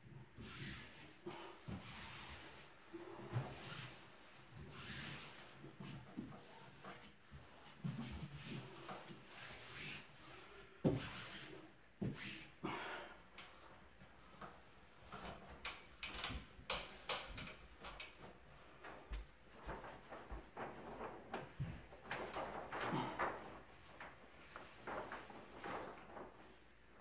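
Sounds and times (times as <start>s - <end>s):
wallpaper rustling: 0.3s - 27.0s.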